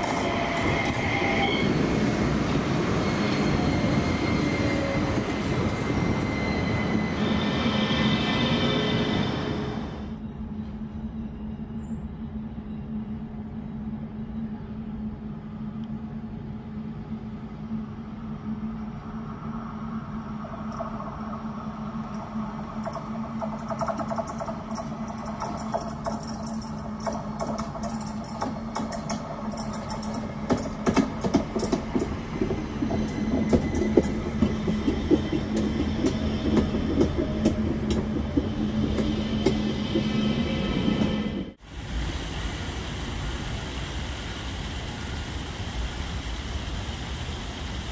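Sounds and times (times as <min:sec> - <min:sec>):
distant tram rolling: 0:00.0 - 0:46.1.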